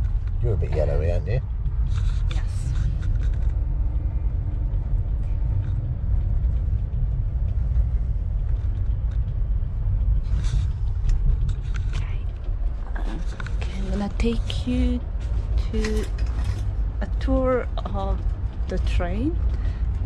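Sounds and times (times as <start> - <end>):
train rumbling from inside: 0.0 - 20.0.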